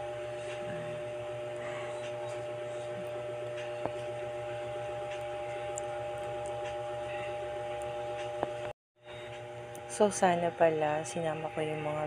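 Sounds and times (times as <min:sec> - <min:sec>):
indoor room hum: 0:00.0 - 0:12.0.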